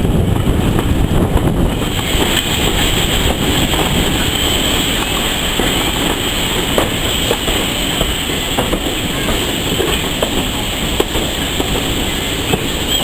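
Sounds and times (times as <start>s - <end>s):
train rumbling on track: 0.0s - 13.0s
wheels clicking over rails: 0.0s - 13.0s.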